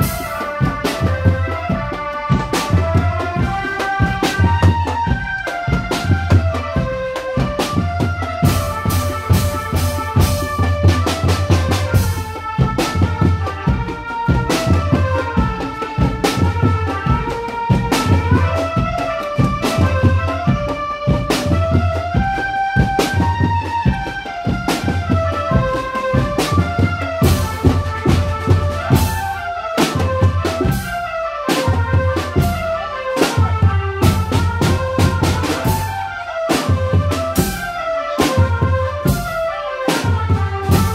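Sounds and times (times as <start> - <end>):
bass drums beating: 0.0 - 39.5, 40.1 - 40.9
marching drum band playing: 0.0 - 40.9.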